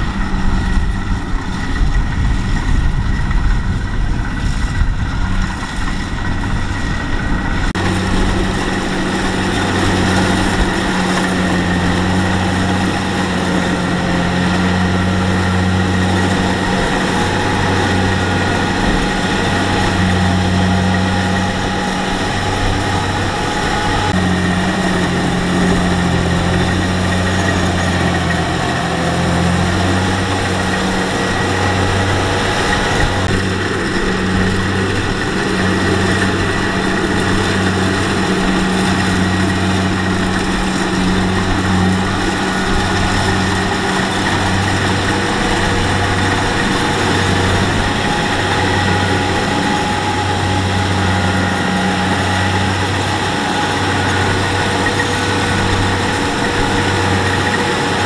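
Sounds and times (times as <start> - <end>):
diesel engine hum: 0.0 - 58.0
threshing machinery noise: 0.0 - 58.0.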